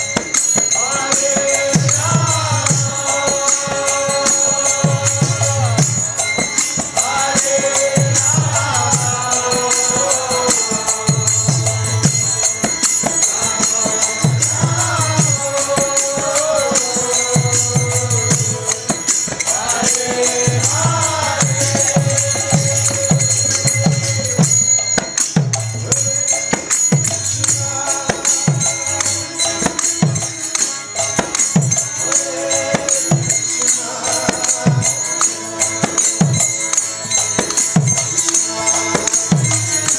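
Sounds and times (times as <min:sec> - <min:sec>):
devotional chanting: 0:00.0 - 0:39.9
hand drums beating rhythm: 0:00.0 - 0:39.9
jingling hand cymbals: 0:00.0 - 0:39.9.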